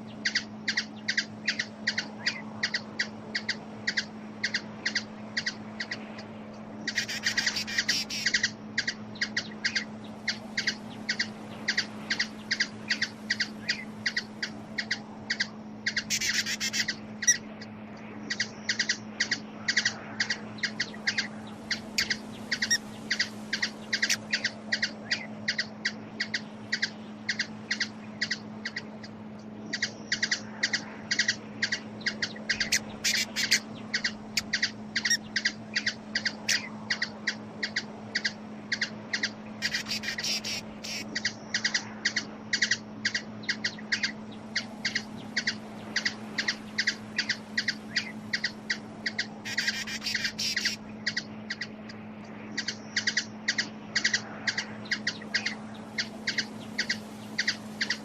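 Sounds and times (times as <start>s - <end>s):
steady low hum: 0.0s - 58.0s
hummingbird chip calls: 0.1s - 58.0s.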